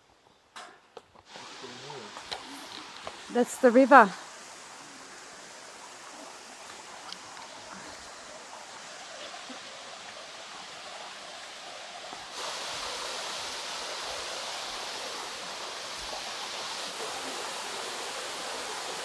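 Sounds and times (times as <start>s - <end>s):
river and waterfall rushing: 1.3s - 19.0s.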